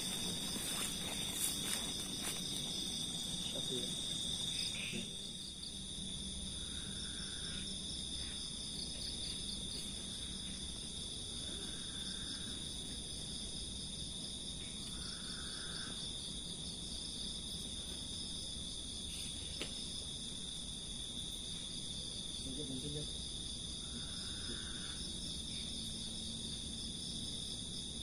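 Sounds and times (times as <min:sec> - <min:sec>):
short lower insect calls: 0:00.0 - 0:13.2, 0:14.6 - 0:16.4, 0:17.6 - 0:27.6
crickets calling: 0:00.0 - 0:28.0.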